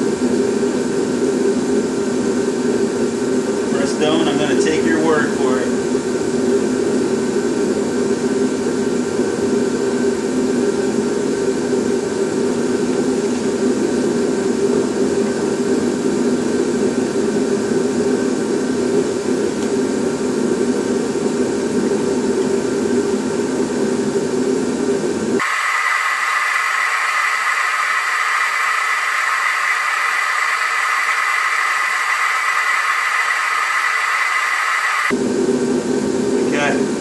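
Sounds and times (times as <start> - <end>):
forced-air heater running: 0.0 - 37.0.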